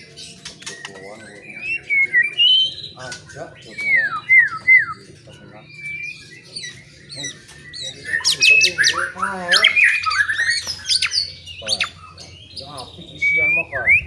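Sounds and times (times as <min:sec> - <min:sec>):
bird singing varied whistles: 0:00.8 - 0:03.0, 0:03.7 - 0:05.0, 0:05.8 - 0:14.0.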